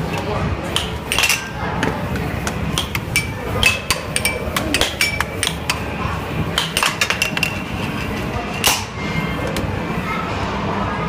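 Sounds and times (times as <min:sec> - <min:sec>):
crowd noise: 0:00.0 - 0:11.0.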